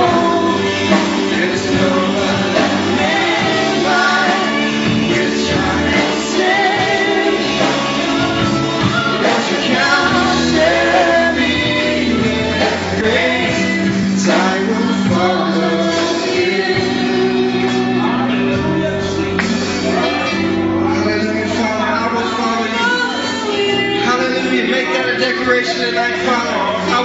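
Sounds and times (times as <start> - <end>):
gospel band playing: 0.0 - 27.0
people singing: 0.0 - 27.0.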